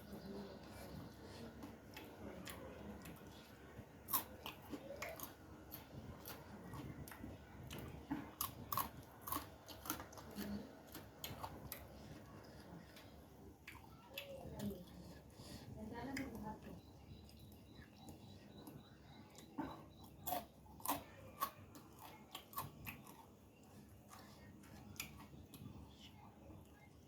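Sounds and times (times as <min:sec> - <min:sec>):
chewing crunchy food: 0:00.0 - 0:27.0.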